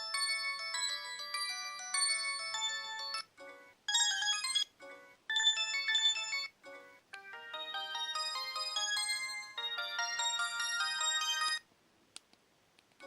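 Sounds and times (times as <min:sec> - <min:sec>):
mobile phone ringtone melody: 0:00.0 - 0:11.7.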